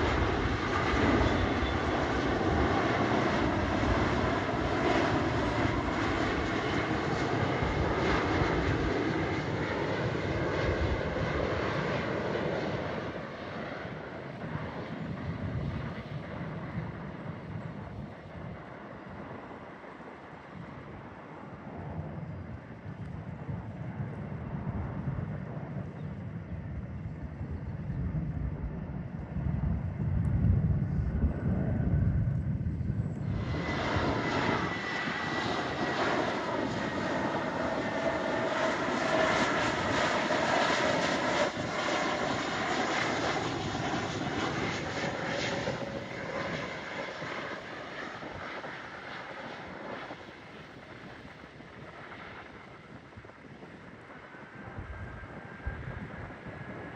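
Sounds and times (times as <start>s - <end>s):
jet airliner engines roaring: 0.0s - 56.9s.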